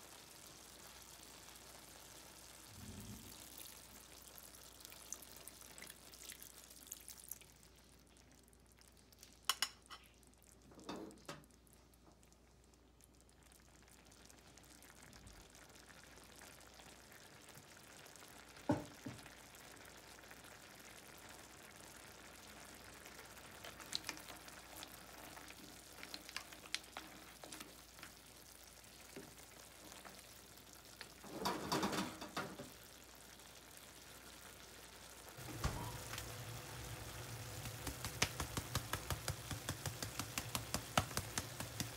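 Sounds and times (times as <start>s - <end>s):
broth pouring into pan: 0.0s - 9.7s, 13.0s - 41.9s
broth simmering in a frying pan: 0.0s - 41.9s.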